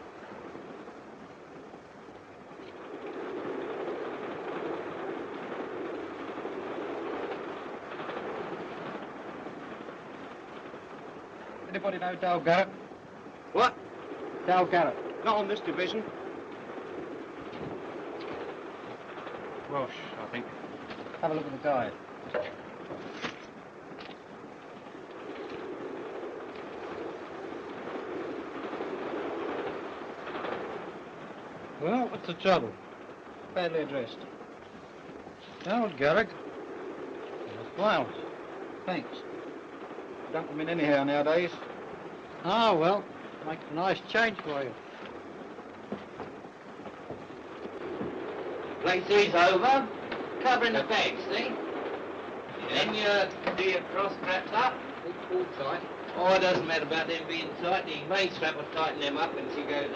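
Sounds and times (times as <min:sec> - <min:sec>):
train wheels rumbling on rails: 0:01.4 - 0:59.9.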